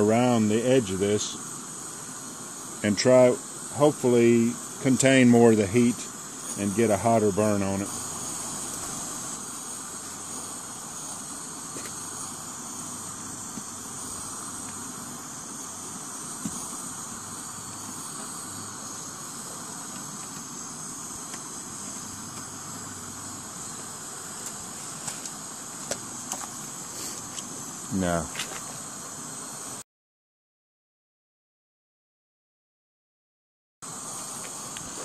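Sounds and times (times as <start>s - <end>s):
camp stove hissing: 0.0s - 29.8s, 33.8s - 35.0s.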